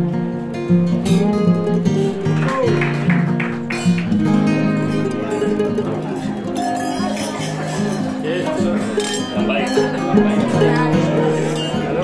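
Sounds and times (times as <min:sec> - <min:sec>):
flamenco acoustic guitar music: 0:00.0 - 0:12.0.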